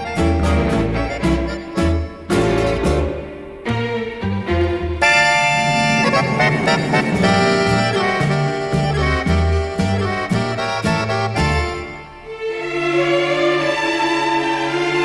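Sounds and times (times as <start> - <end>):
accordion chords: 0.0 - 13.2
orchestral tango music: 0.0 - 15.0.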